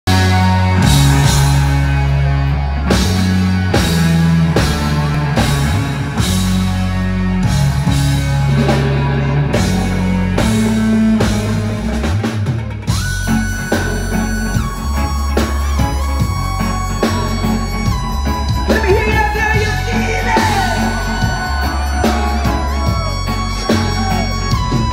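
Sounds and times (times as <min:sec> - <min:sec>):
low bass notes: 0:00.0 - 0:24.9
electric guitar: 0:00.1 - 0:24.9.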